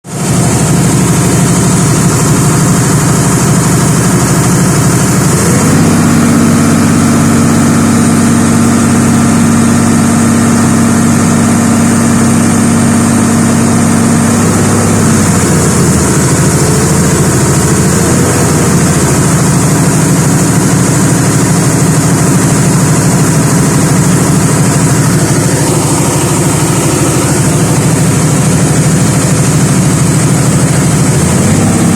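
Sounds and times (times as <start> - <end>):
bulldozer diesel engine running: 0.0 - 31.9.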